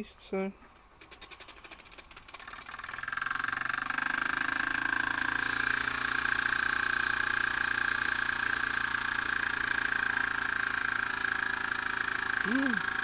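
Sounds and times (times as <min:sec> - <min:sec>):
toy steam engine chuffing: 0:01.0 - 0:13.0
steam hissing: 0:01.1 - 0:13.0.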